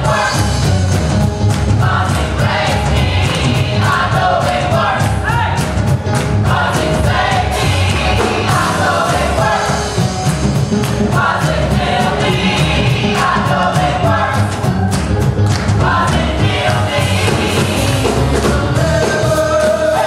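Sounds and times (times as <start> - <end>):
gospel choir singing: 0.0 - 20.0
live band with steady beat: 0.0 - 20.0.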